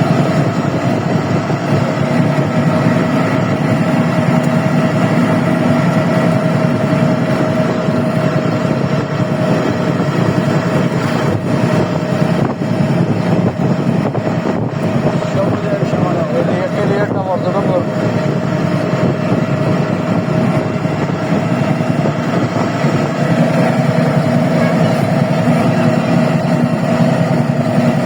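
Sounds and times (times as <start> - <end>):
vehicle running noise: 0.0 - 28.0.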